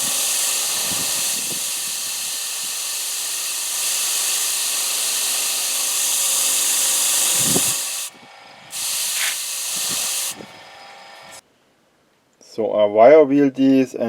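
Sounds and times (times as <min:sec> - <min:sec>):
motor humming: 0:00.0 - 0:11.4
wire wheel scrubbing metal: 0:00.0 - 0:11.4.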